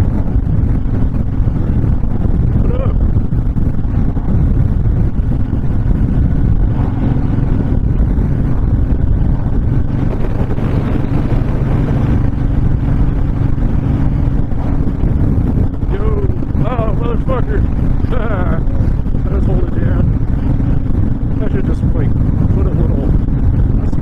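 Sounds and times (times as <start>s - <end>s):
motorcycle engine cruising: 0.0s - 24.0s
wind buffeting microphone: 0.0s - 24.0s.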